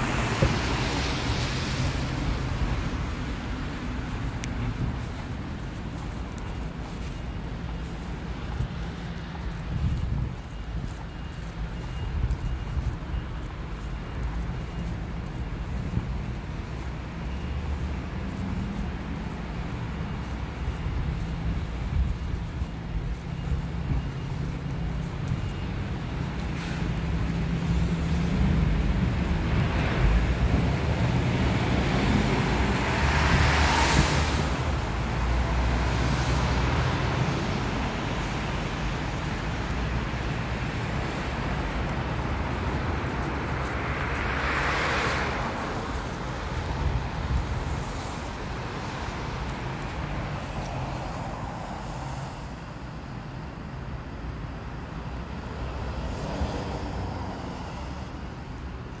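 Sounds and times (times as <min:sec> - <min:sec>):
traffic on a wet road: 0:00.0 - 0:59.0.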